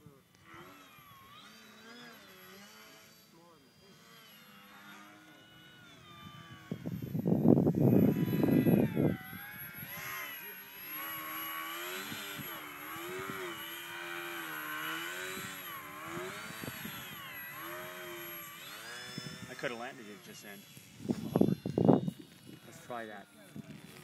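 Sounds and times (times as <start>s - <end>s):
model plane motor whining: 0.0s - 24.0s.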